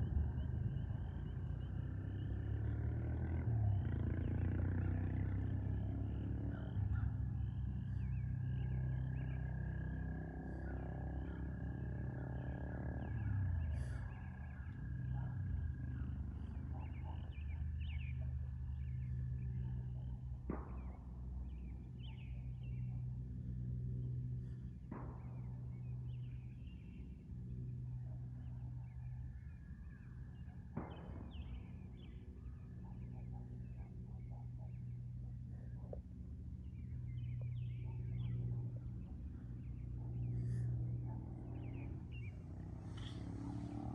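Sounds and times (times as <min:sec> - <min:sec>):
low steady hum: 0:00.0 - 0:02.6, 0:05.6 - 0:43.9.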